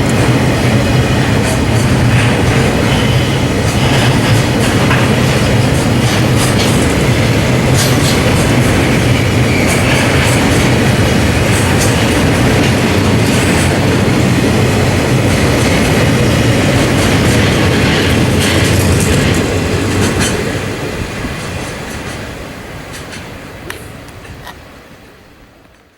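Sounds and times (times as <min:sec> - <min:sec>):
wheels clicking over rail joints: 0:00.0 - 0:24.6
train cars rumbling on track: 0:00.0 - 0:25.9.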